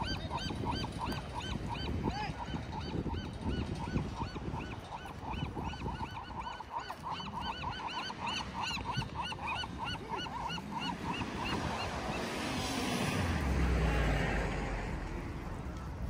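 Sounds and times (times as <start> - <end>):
waterbirds calling: 0.0 - 13.1.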